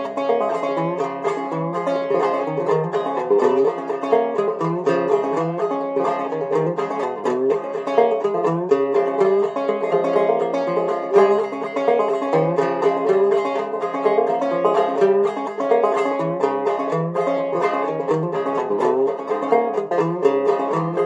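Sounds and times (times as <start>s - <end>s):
banjo tune picked: 0.0s - 21.0s.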